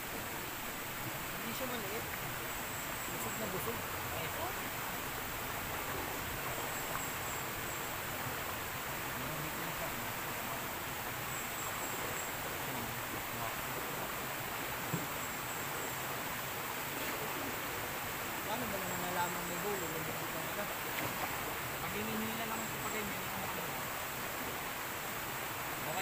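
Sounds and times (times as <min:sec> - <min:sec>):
stream running over rocks: 0:00.0 - 0:26.0.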